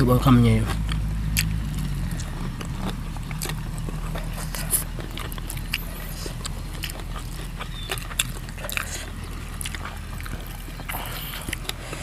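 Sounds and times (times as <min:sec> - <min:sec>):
steady low hum: 0:00.0 - 0:12.0
people chewing and crunching: 0:00.4 - 0:12.0.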